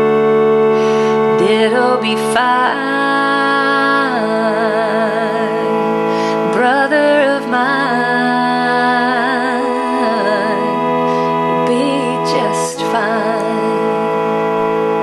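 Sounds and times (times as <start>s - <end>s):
held accompanying chords: 0.0s - 15.0s
woman singing with vibrato: 0.6s - 15.0s.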